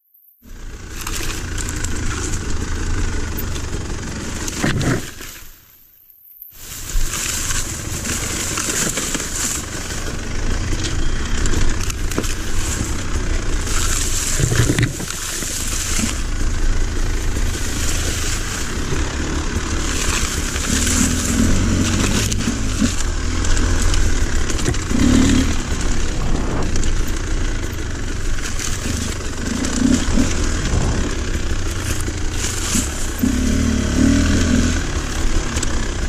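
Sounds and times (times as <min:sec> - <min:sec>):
dirt bike engine running: 0:00.4 - 0:05.6, 0:06.5 - 0:36.0
branches crunching and scraping: 0:00.4 - 0:36.0.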